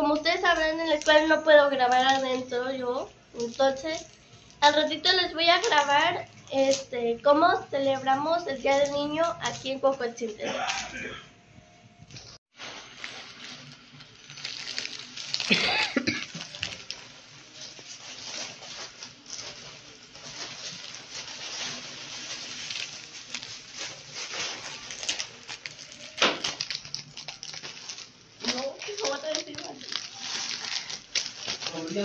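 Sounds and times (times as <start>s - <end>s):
cellophane crinkling: 0.1s - 10.8s, 12.6s - 32.0s.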